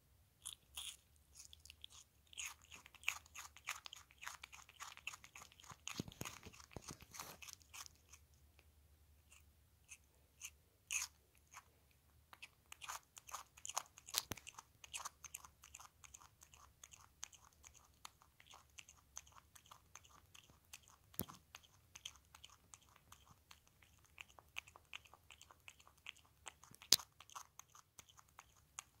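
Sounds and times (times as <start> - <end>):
animal crunching cucumber: 0.4 - 8.4, 9.2 - 29.0.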